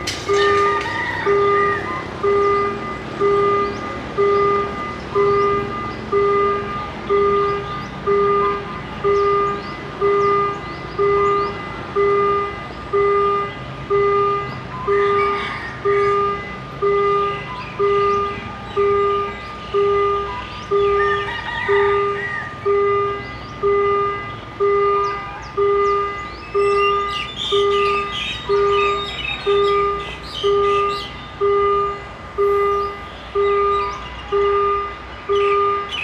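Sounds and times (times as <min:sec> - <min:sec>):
level-crossing warning bell: 0:00.0 - 0:36.0.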